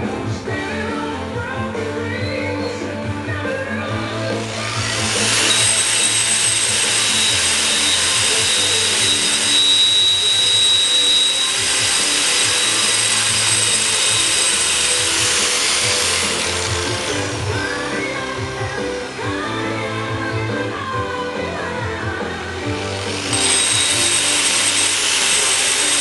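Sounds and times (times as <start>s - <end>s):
background music: 0.0s - 26.0s
angle grinder grinding concrete: 3.9s - 26.0s.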